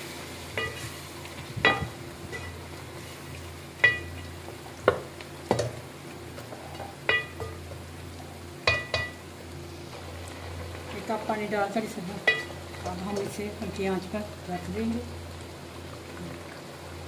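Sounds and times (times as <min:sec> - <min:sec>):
curry simmering with low sizzle: 0:00.0 - 0:17.0.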